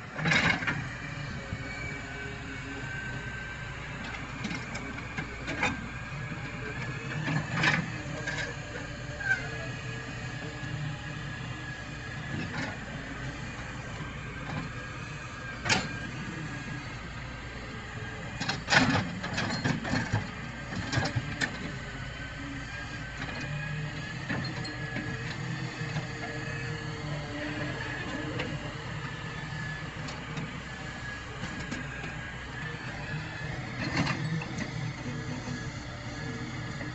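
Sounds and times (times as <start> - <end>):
excavator engine hum: 0.0 - 36.9.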